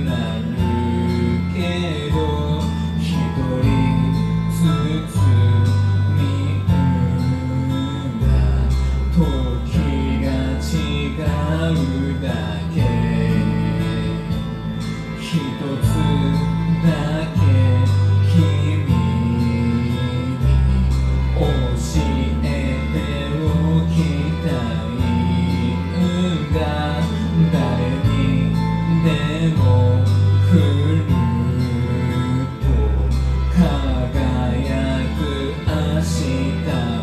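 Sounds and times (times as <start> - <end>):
karaoke backing track: 0.0 - 37.0
man singing into microphone: 0.0 - 37.0.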